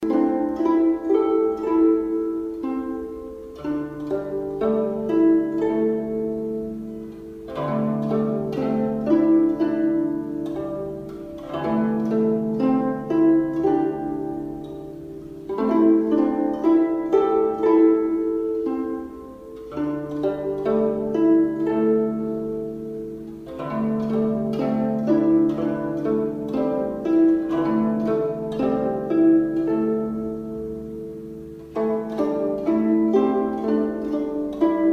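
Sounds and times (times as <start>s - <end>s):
plucked harp-like notes: 0.0s - 34.9s.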